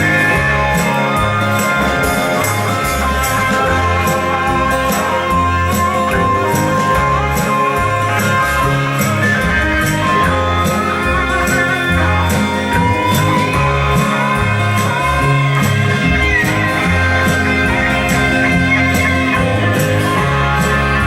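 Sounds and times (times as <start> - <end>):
rock music with guitar: 0.0 - 21.0.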